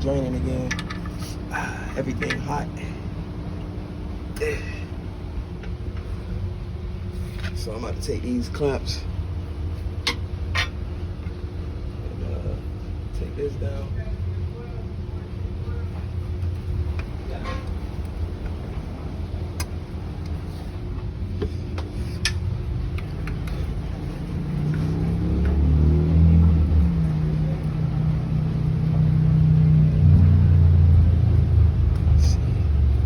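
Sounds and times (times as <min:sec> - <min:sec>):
motor vehicle engine running: 0:00.0 - 0:13.8, 0:15.1 - 0:33.0.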